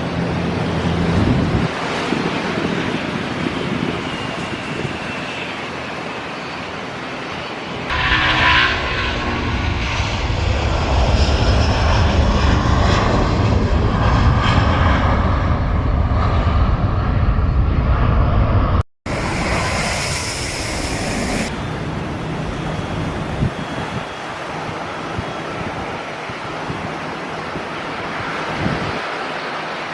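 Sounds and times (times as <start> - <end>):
jet engine roar: 0.0 - 29.9.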